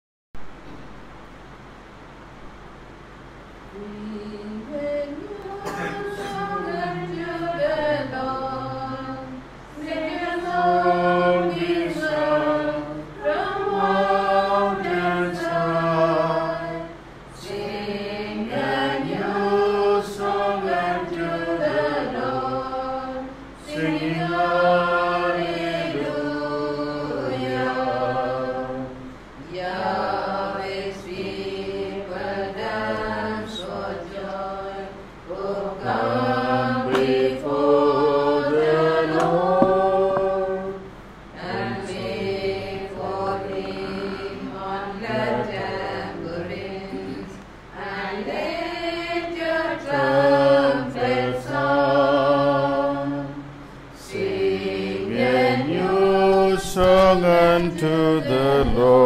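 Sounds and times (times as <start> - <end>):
choir singing a hymn: 3.7 - 59.0.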